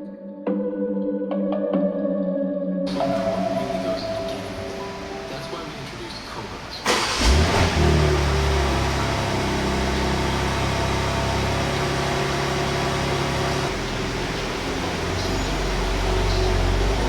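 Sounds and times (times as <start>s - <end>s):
car engine idling: 2.9s - 17.0s.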